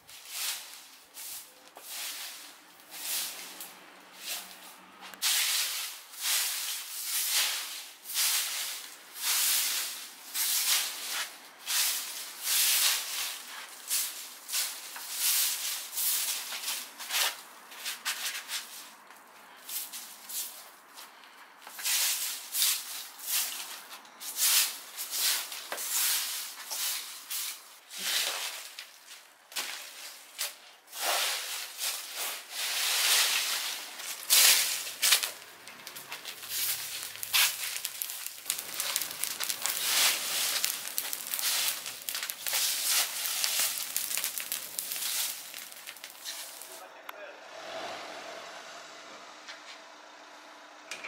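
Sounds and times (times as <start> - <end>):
broom sweeping leaves on paving: 0.0 - 46.9
burning leaves crackling: 0.0 - 47.2.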